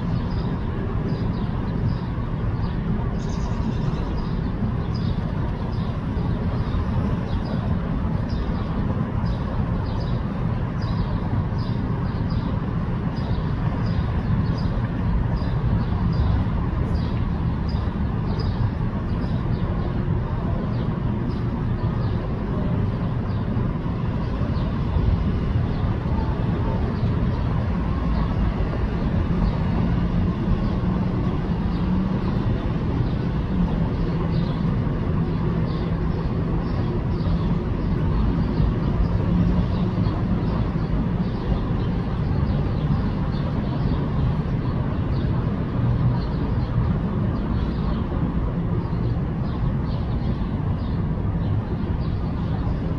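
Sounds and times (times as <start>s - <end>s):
faint wavering engine hum: 0.0s - 52.9s
low rumble of traffic: 0.0s - 52.9s.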